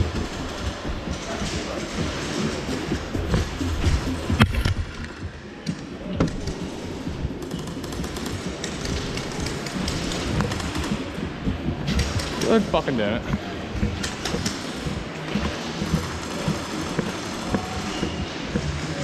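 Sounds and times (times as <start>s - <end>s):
background din in warehouse hall: 0.0s - 19.0s
knocks and clicks: 0.0s - 19.0s.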